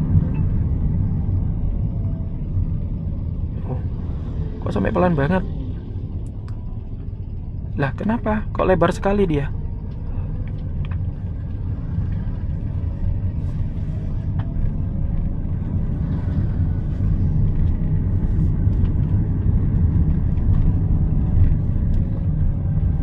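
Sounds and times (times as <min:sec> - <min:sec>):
car engine rumble inside cabin: 0:00.0 - 0:23.0.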